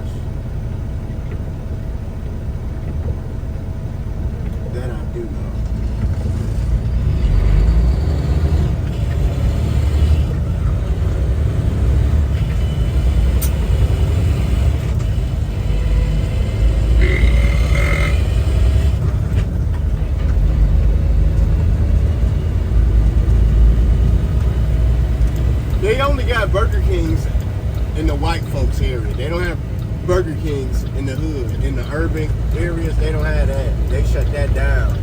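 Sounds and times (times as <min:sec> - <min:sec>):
truck engine and road noise: 0:00.0 - 0:35.0.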